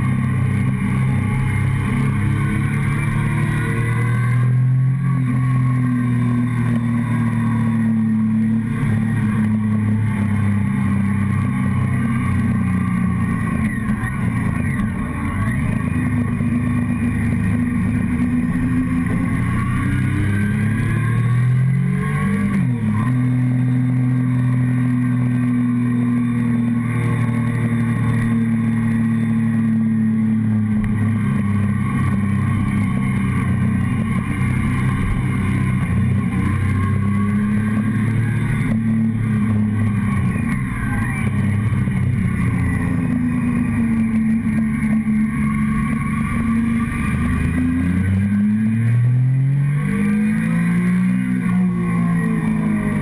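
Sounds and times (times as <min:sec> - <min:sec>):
motorcycle engine running: 0:00.0 - 0:53.0
road noise: 0:00.0 - 0:53.0.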